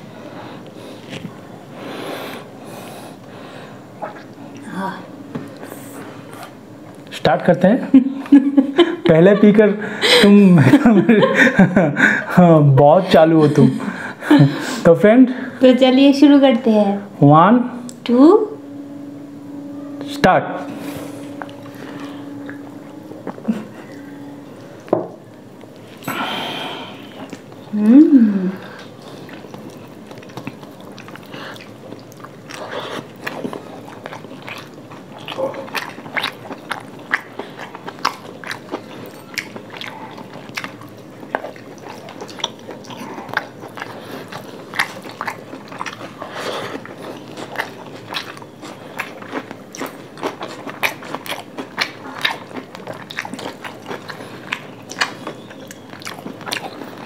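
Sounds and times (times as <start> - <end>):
people chewing food: 0.0 - 16.8, 21.0 - 57.0.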